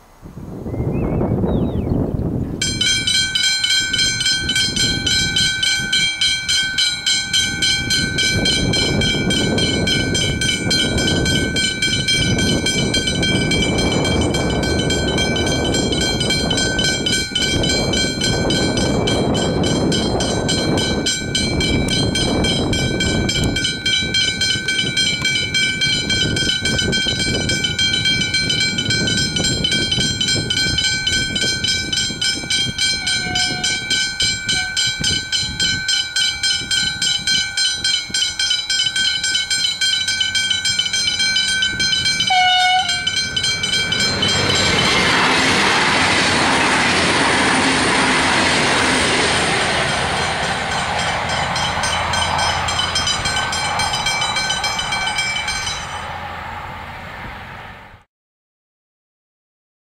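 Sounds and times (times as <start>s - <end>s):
diesel train rumbling past: 0.0s - 58.1s
level crossing warning bells ringing: 2.6s - 56.8s.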